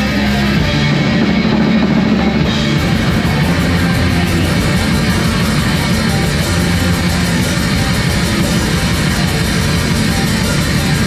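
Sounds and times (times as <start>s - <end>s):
distorted electric guitars: 0.0s - 11.0s
rapid dense drumming: 0.0s - 11.0s.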